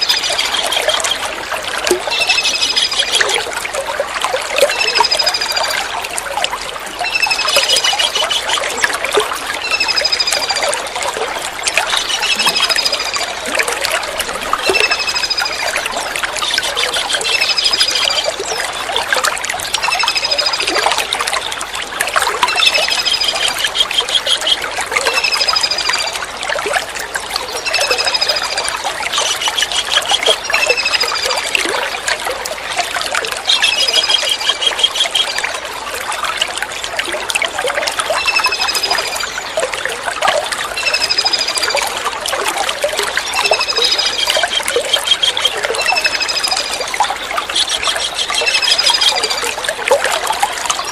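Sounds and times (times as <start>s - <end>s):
trickle of running water: 0.0s - 50.9s.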